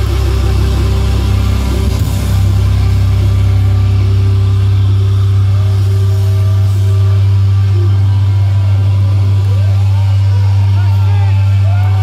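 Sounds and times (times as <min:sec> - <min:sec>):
live band over loudspeakers: 0:00.0 - 0:12.0.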